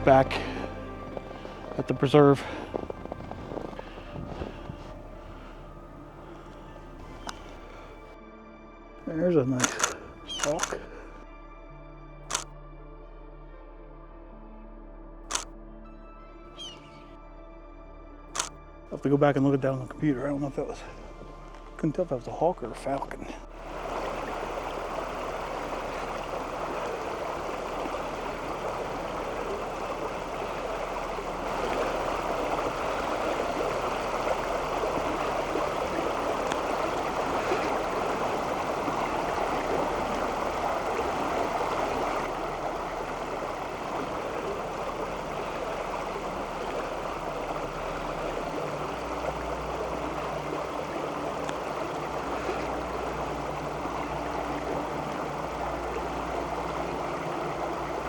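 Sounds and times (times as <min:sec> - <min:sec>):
creek water running: 0:00.0 - 0:08.2, 0:09.0 - 0:11.2, 0:16.5 - 0:17.0, 0:18.4 - 0:58.0.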